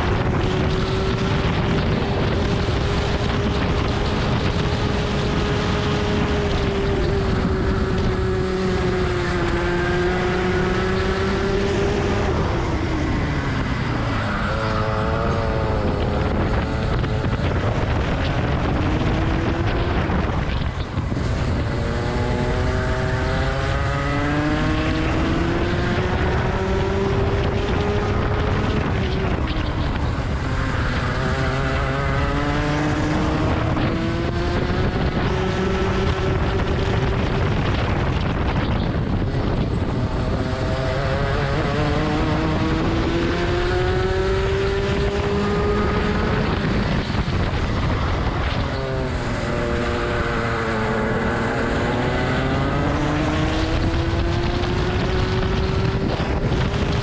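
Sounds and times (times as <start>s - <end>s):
kart engine revving: 0.0s - 57.0s
wind rushing over microphone: 0.0s - 57.0s.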